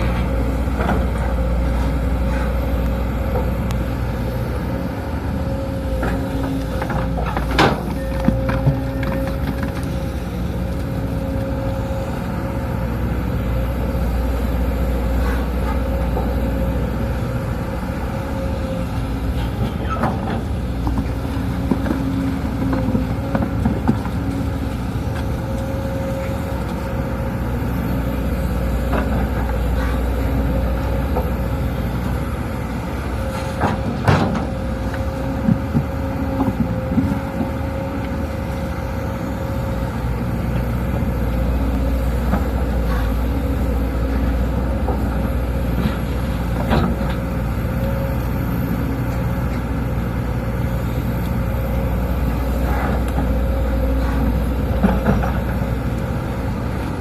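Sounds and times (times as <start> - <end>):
diesel engine drone: 0.0 - 57.0.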